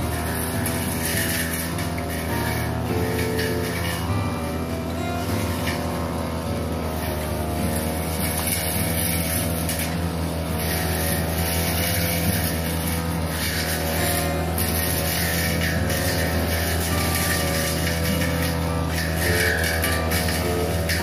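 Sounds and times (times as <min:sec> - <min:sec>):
blade trimming leafy branches: 0:00.0 - 0:21.0
brush cutter engine running: 0:00.0 - 0:21.0.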